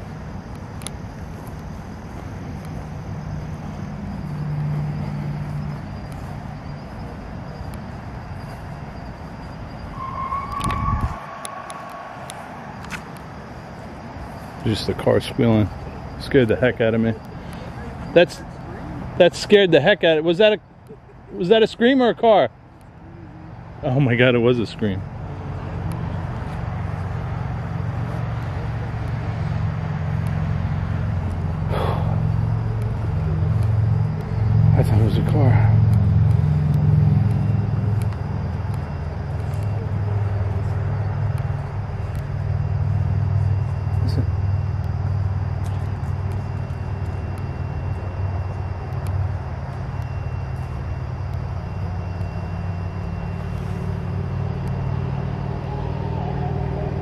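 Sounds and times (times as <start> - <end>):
steady low rumble: 0.0 - 19.2, 25.0 - 57.0
distant high-pitched squeal: 0.0 - 20.5, 23.0 - 57.0
car engine humming: 0.0 - 21.4, 22.7 - 57.0.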